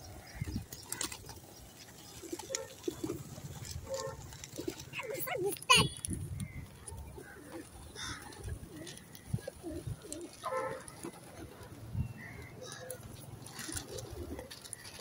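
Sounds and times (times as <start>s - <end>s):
pigeons cooing: 0.0s - 5.8s, 6.6s - 15.0s.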